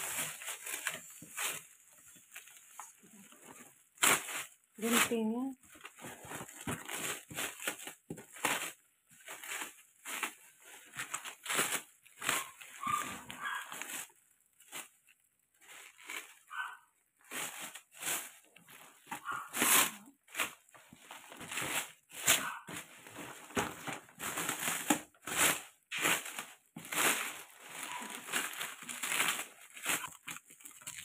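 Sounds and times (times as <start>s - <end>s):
plastic cling wrap crinkling and tearing: 0.0s - 31.0s.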